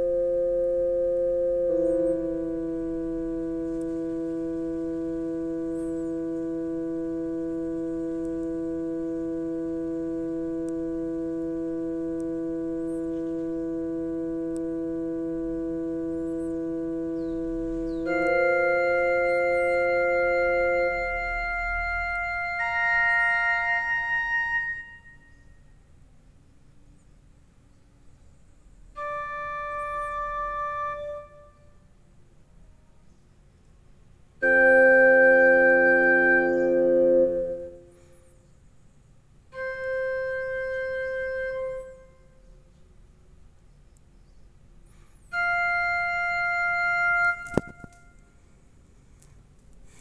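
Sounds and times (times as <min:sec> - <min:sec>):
keyboard held chords: 0:00.0 - 0:25.5, 0:28.9 - 0:32.0, 0:34.3 - 0:38.3, 0:39.5 - 0:42.7, 0:44.9 - 0:50.0.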